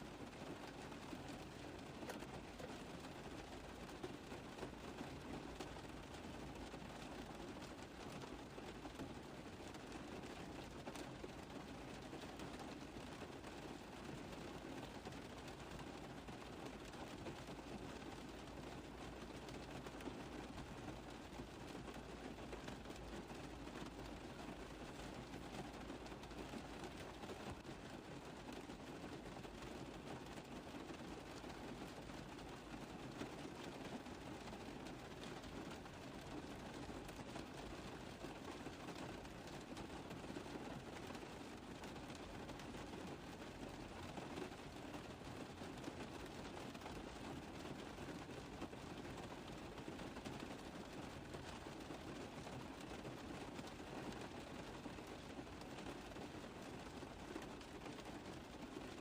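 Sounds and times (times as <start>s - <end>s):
rain tapping on car roof: 0.0s - 59.0s.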